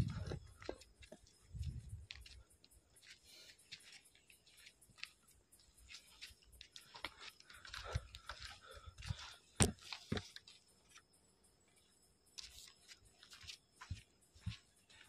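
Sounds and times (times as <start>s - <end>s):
footsteps on stony ground: 0.0s - 10.6s, 12.4s - 15.0s.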